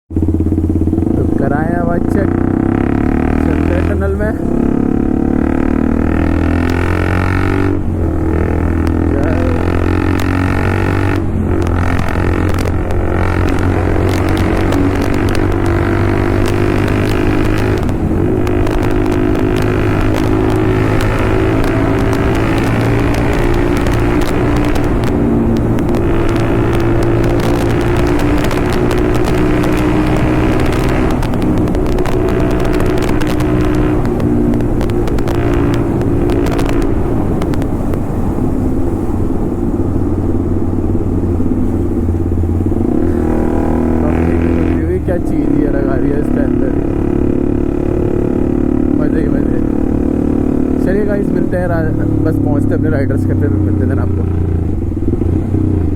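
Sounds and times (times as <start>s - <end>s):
exhaust crackles and pops: 0.1s - 55.9s
motorcycle engine running: 0.1s - 55.9s.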